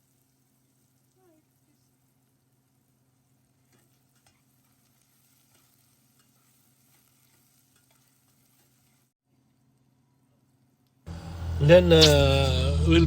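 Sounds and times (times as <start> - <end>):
faint sizzling in a pan: 0.0 - 12.6.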